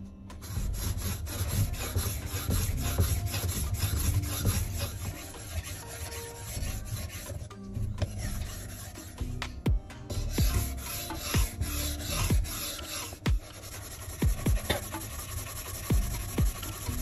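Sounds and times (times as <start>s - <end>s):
blade scraping on whetstone: 0.4s - 9.4s, 10.1s - 17.0s.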